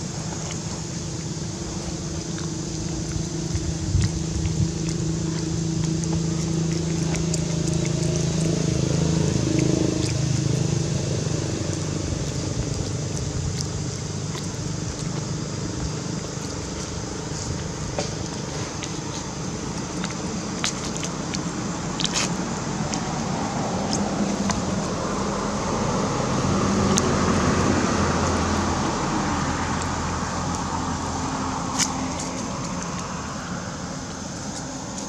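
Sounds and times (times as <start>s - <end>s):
low motor hum: 0.0s - 35.0s.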